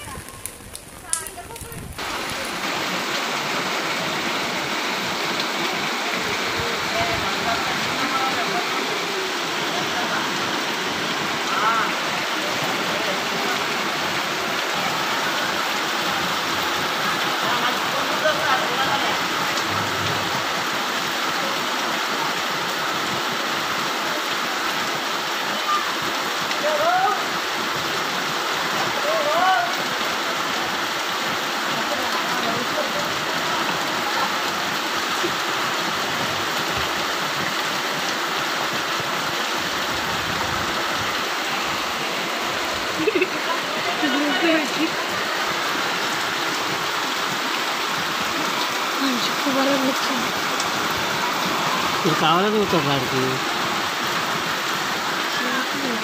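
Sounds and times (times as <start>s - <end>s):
floodwater rushing: 0.0s - 56.0s
heavy rain: 0.0s - 56.0s.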